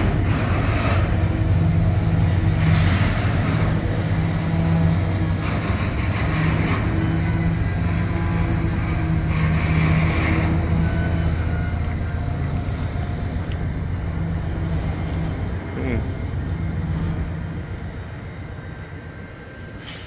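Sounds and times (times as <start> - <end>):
diesel locomotive droning: 0.0 - 20.0.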